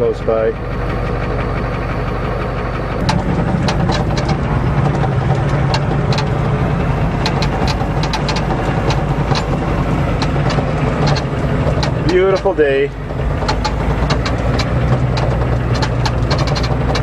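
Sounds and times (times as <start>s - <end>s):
diesel truck engine running: 0.0s - 17.0s
cab rattles and clicks: 2.8s - 17.0s.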